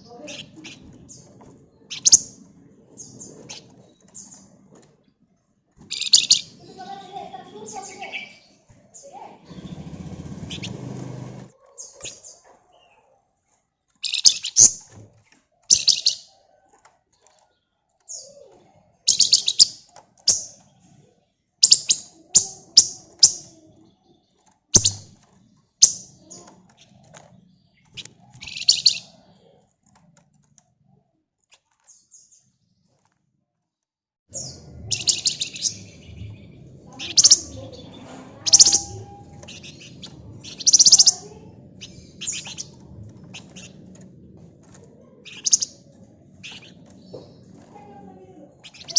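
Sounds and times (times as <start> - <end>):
songbird rattling chirps: 0.1 - 4.7, 5.8 - 13.1, 14.0 - 17.5, 18.1 - 29.6, 34.3 - 48.9.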